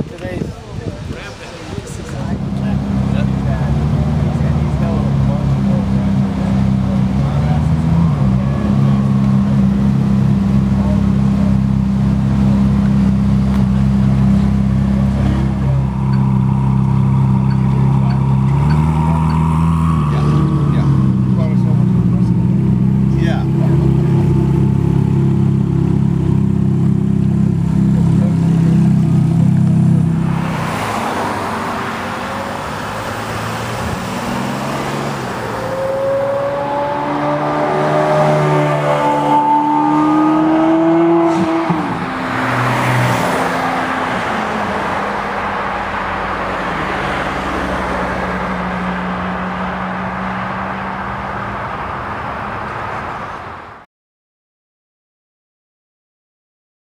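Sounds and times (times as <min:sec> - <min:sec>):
sports car engine accelerating: 0:01.4 - 0:53.3.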